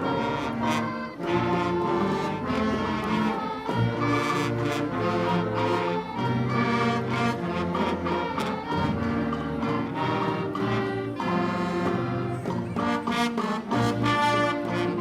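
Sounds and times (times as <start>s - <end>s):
concert band playing: 0.0s - 15.0s
percussion strokes: 0.0s - 15.0s.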